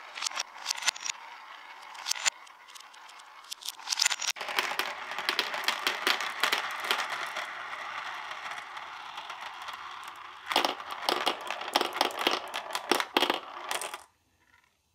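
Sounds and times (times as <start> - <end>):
marbles clacking together: 0.0 - 14.7
marbles rolling in plastic bowl: 0.0 - 14.8.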